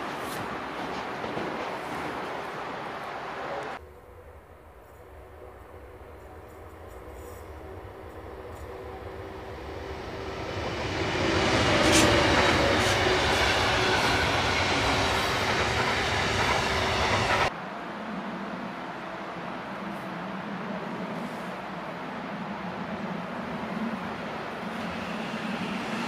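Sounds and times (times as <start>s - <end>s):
freight train passing: 0.0s - 26.0s.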